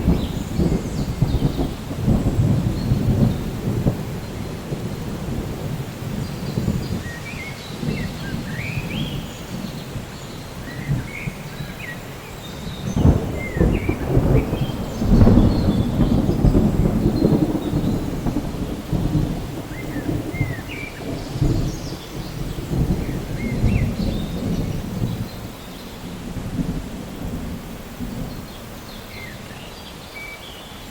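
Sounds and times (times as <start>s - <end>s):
thunder rumbling: 0.0s - 29.6s
steady rain: 0.0s - 30.9s.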